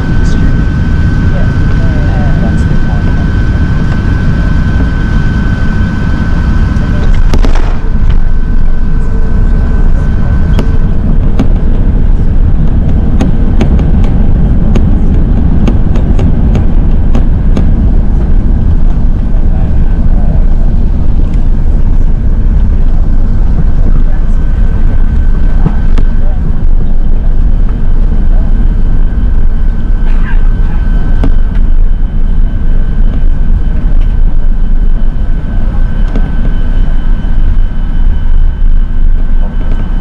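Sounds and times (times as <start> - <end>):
airplane cabin rumble: 0.0 - 40.0
thin steady whine: 0.0 - 40.0.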